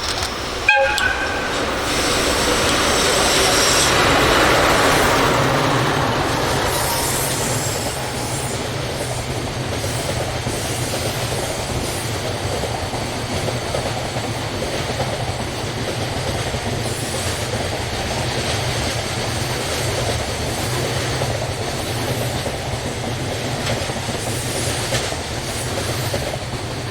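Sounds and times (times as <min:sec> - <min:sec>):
clickety-clack of wheels: 0:00.0 - 0:26.9
freight train rolling past: 0:00.0 - 0:26.9.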